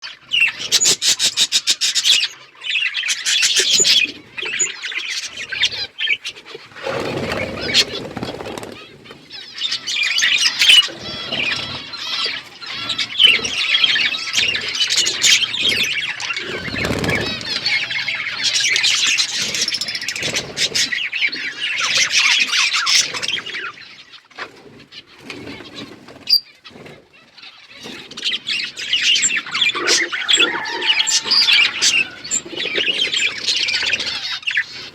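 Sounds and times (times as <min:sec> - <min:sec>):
budgerigars chattering: 0:00.0 - 0:24.4, 0:27.2 - 0:34.9.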